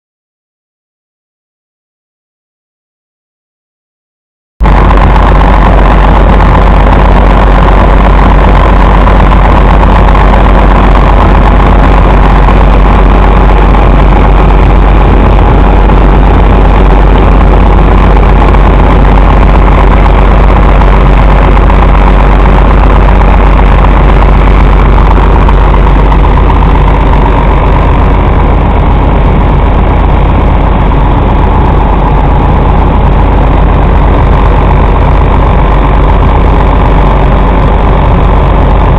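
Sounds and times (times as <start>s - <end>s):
diesel truck engine idling: 4.6s - 38.9s.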